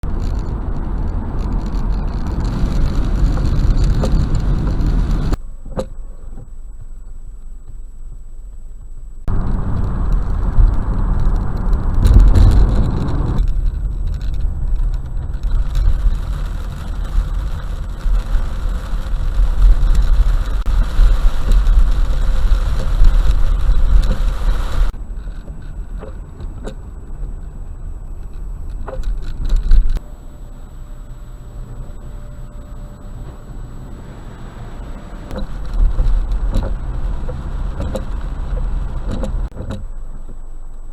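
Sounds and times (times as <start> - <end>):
road tyre and engine rumble: 0.0 - 40.9.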